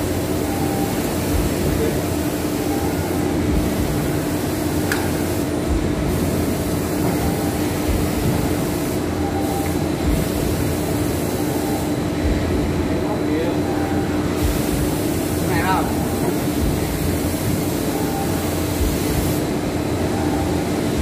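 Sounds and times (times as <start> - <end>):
continuous rushing noise: 0.0 - 21.0
machine humming: 0.0 - 21.0.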